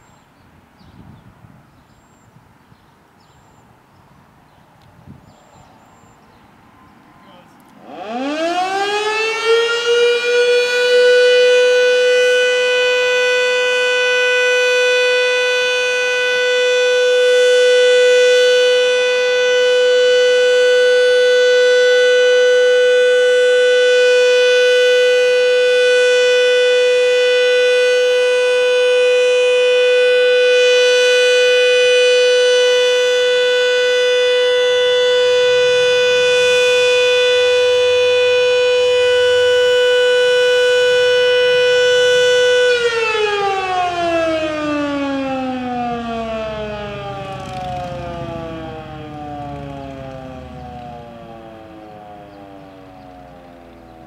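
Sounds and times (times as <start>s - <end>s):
siren steady tone: 5.8s - 54.0s.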